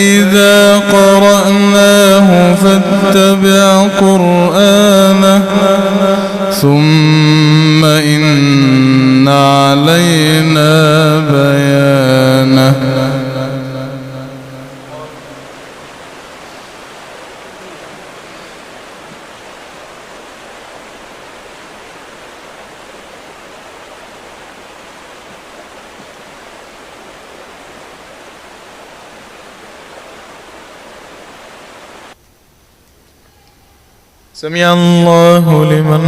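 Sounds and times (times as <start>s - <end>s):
steady hiss: 0.0s - 34.8s.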